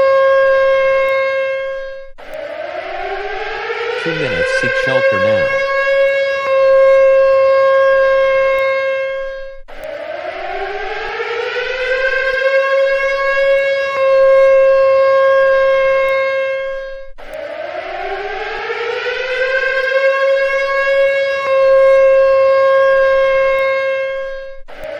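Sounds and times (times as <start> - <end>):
civil defense siren winding up: 0.0 - 24.9.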